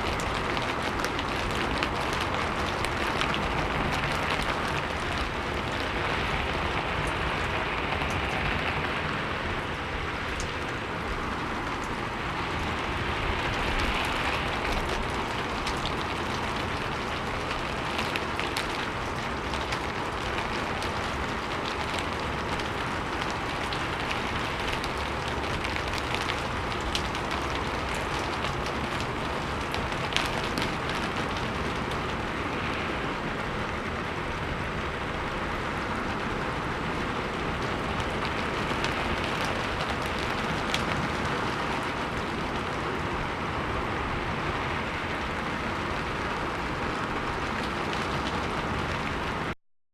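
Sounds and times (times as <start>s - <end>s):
rain beating on a roof: 0.0s - 49.6s.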